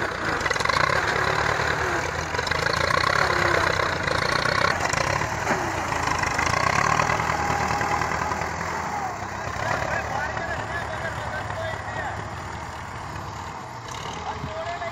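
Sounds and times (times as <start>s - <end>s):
diesel tractor engines under load: 0.0s - 14.9s.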